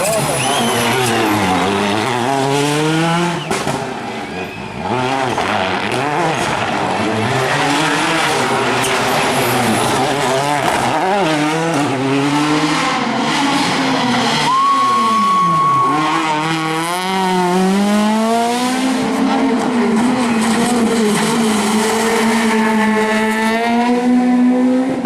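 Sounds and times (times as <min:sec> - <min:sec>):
car engine revving hard: 0:00.0 - 0:04.0, 0:04.8 - 0:25.0.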